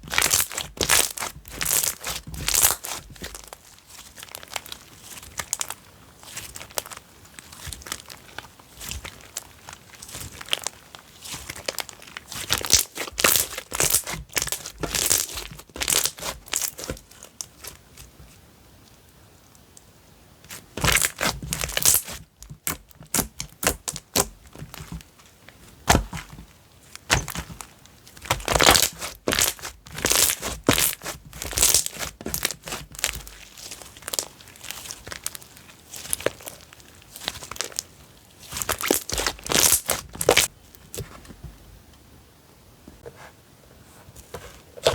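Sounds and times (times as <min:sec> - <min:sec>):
slime squished by hand: 0:00.1 - 0:17.8, 0:20.5 - 0:25.0, 0:27.0 - 0:41.1.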